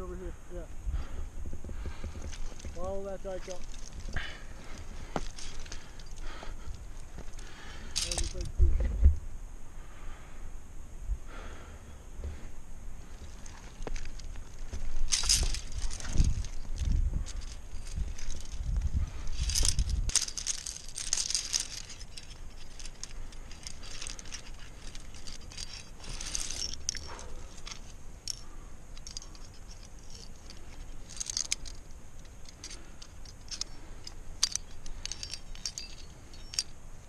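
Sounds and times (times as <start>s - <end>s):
rustles and scrapes on rock: 1.4s - 9.1s, 12.2s - 36.8s
climbing gear clinking: 1.5s - 8.6s, 13.0s - 37.0s.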